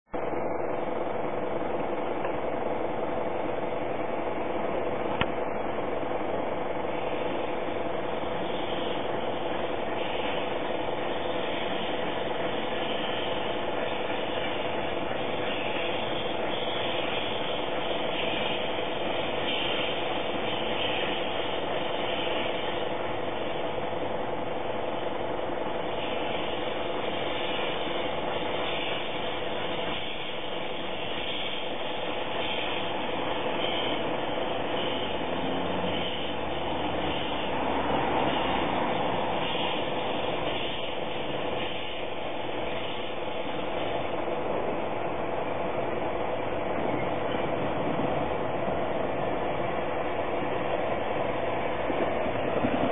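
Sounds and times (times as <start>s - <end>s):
steam locomotive running: 0.1s - 52.9s.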